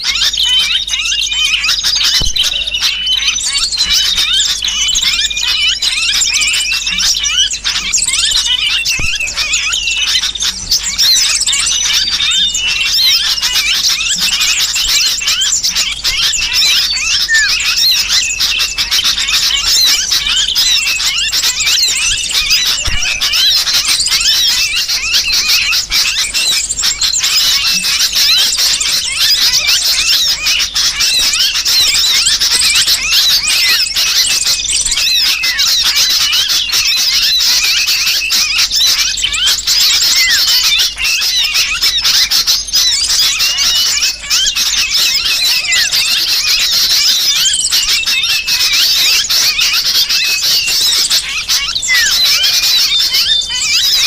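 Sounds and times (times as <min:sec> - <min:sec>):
bulbul scolding calls: 0:00.0 - 0:54.0
shrill bird distress squeals: 0:00.0 - 0:54.0.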